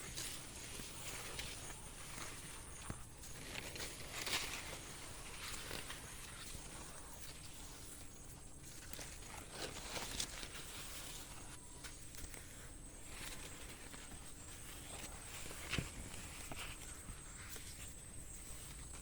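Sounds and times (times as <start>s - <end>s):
rustles and light clicks: 0.0s - 19.0s.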